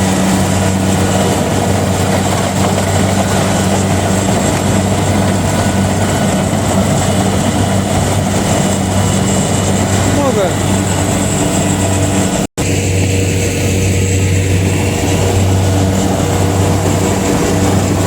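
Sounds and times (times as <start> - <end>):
engine-driven machine humming: 0.0 - 18.0.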